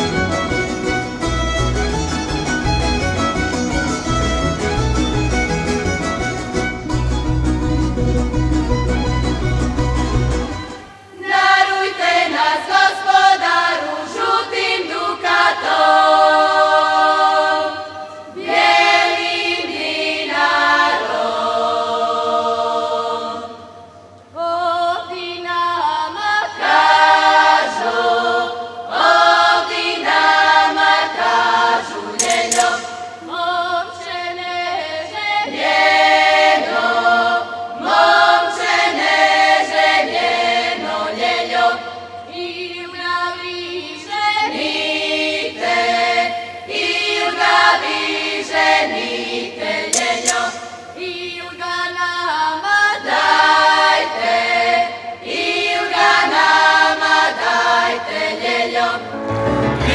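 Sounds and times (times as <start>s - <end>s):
women's choir singing a cappella: 10.9s - 59.2s.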